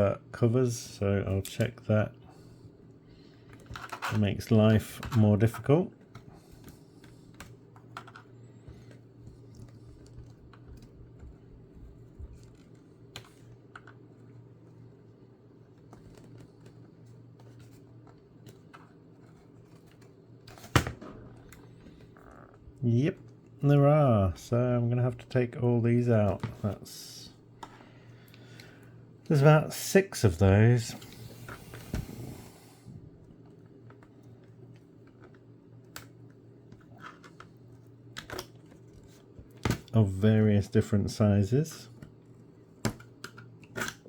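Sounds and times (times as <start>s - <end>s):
computer low hum: 0.0s - 44.0s.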